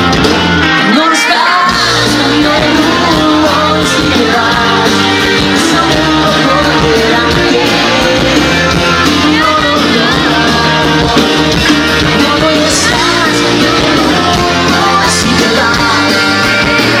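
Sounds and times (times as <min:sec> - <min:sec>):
drums: 0:00.0 - 0:17.0
electric guitars: 0:00.0 - 0:17.0
live rock band: 0:00.0 - 0:17.0
person singing: 0:00.8 - 0:17.0.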